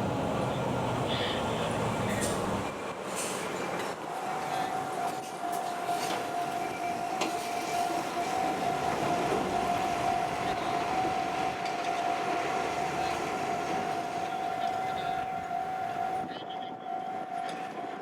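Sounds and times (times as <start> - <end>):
train rolling rumble: 0.0 - 18.0.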